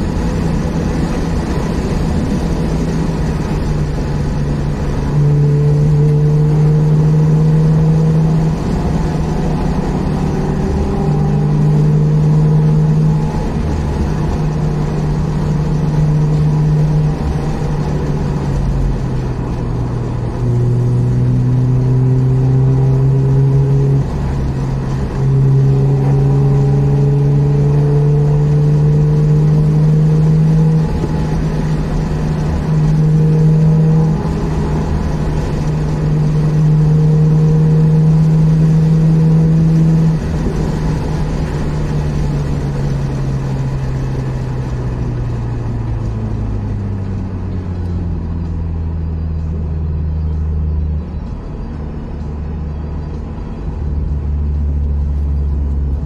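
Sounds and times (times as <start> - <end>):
rotary engine accelerating: 0.0 - 56.0.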